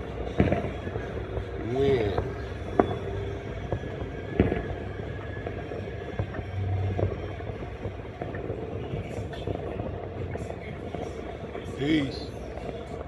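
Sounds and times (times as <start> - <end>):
fireworks bang: 0.0 - 13.0
fireworks pops: 0.0 - 13.0
steady low rumble: 0.0 - 13.0.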